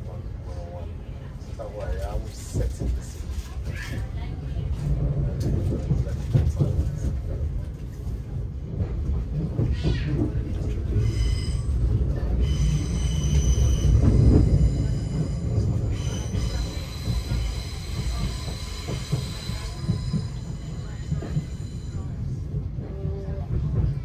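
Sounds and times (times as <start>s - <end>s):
train rumble inside carriage: 0.0s - 24.0s.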